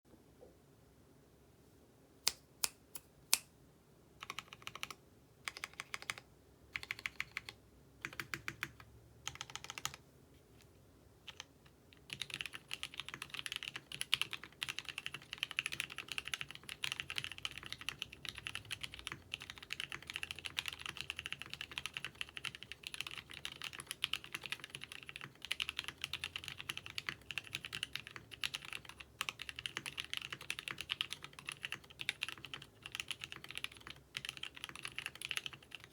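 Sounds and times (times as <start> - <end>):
mechanical keyboard typing: 4.2 - 6.2, 6.8 - 10.0, 11.3 - 35.9.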